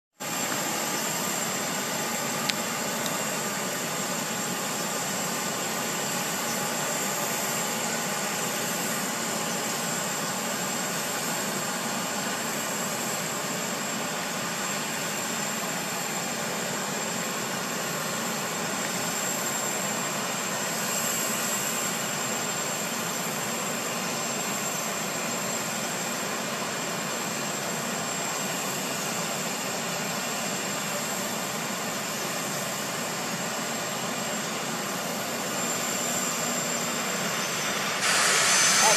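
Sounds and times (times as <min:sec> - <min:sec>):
helicopter turbine whine: 0:00.2 - 0:38.9.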